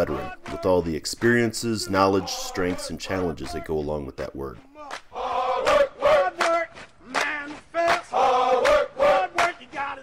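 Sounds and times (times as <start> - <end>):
men chanting in unison: 0.0 - 0.9, 1.7 - 3.7, 4.6 - 10.0.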